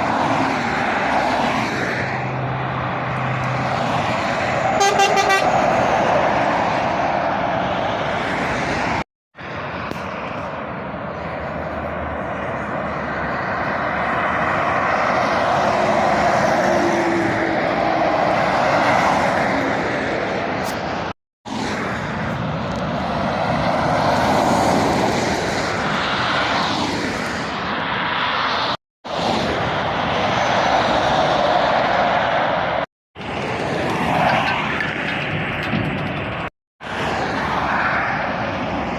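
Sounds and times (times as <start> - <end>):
traffic passing at speed: 0.0 - 38.9.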